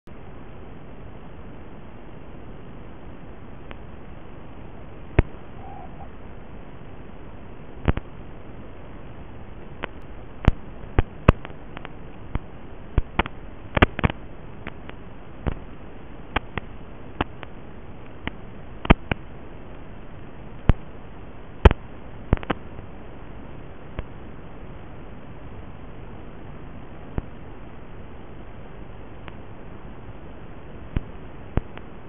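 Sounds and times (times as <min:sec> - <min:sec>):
sharp static clicks and pops: 0:00.1 - 0:32.0
static hiss: 0:00.1 - 0:32.0.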